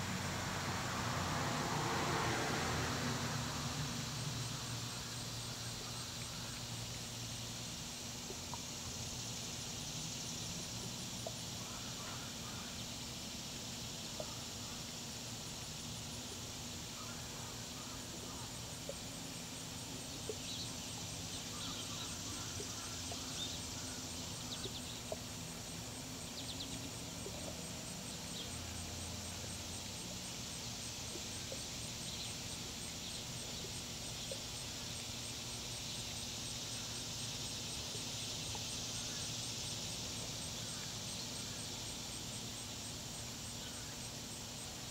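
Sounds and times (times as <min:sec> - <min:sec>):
steady high hiss: 0:00.0 - 0:44.9.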